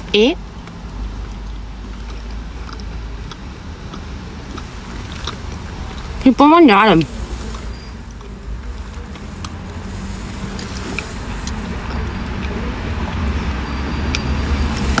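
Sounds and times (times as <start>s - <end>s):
low rumble inside car: 0.0s - 15.0s
chewing crunching clicks: 0.4s - 6.2s, 7.5s - 9.7s, 10.6s - 15.0s.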